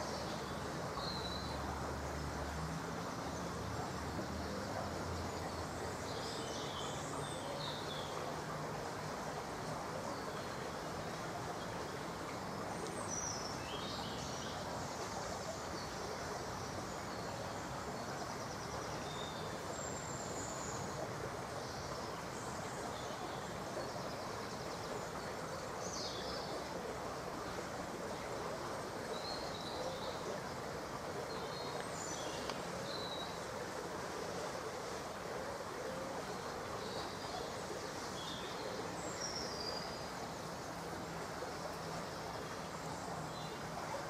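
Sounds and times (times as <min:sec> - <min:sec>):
songbirds chirping and trilling: 0:00.0 - 0:44.0.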